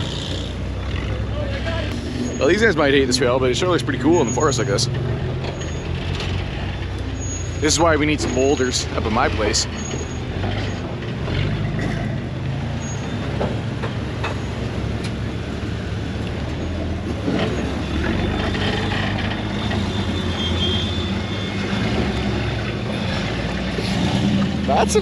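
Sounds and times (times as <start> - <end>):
buggy engines revving low: 0.0 - 25.0.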